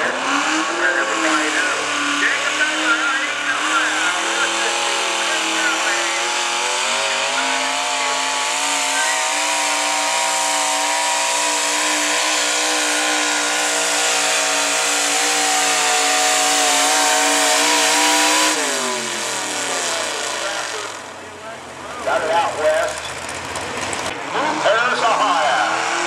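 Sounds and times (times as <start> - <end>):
tractor engine running flat out: 1.7 - 24.4.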